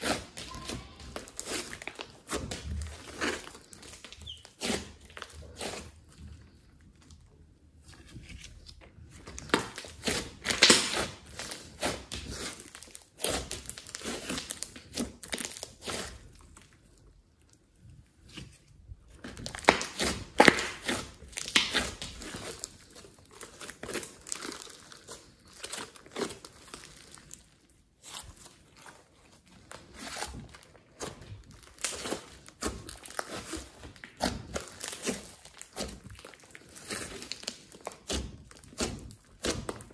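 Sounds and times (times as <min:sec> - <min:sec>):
sticky slime crackling and tearing: 0:00.0 - 0:07.1, 0:08.6 - 0:17.6, 0:19.1 - 0:39.9.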